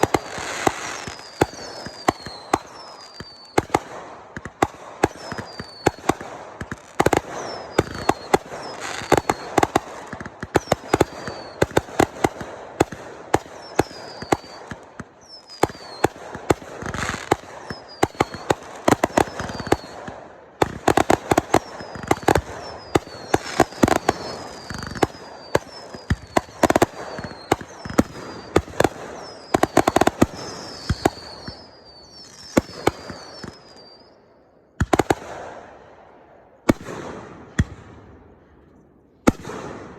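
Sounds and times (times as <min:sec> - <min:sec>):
fireworks falling whistles: 0:00.0 - 0:35.9
fireworks bangs and crackling: 0:00.0 - 0:39.9.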